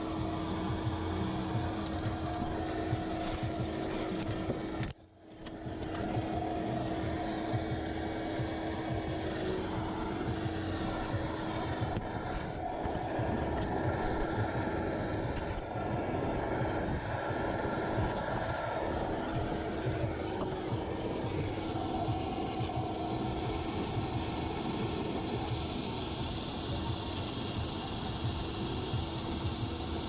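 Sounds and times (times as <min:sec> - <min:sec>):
mechanical rumble with hum: 0:00.0 - 0:30.0.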